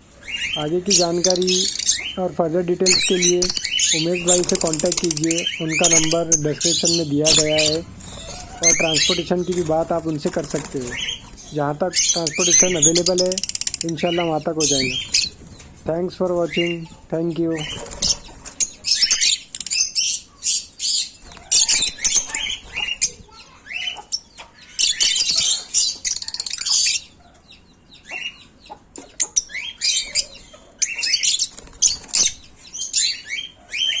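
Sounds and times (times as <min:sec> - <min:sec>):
lovebirds chirping and screeching: 0:00.0 - 0:34.0.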